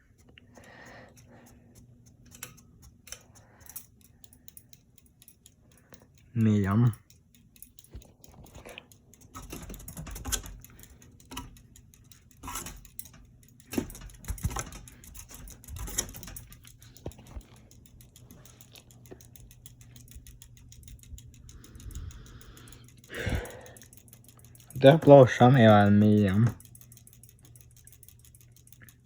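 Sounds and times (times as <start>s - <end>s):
ceiling fan motor hum: 0.0s - 29.0s.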